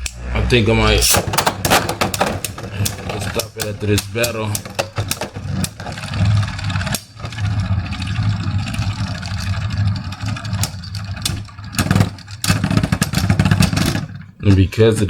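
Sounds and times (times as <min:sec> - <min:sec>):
spinning tops whirring: 0:00.0 - 0:15.0
spinning tops clacking together: 0:01.0 - 0:14.4.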